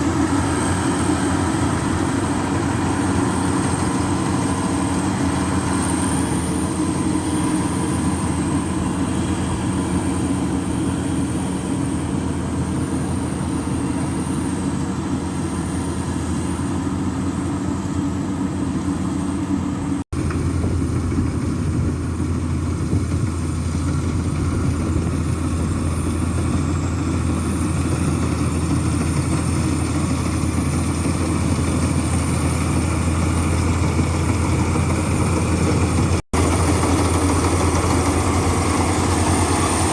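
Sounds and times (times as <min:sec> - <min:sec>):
heavy machine engine running: 0:00.0 - 0:39.9.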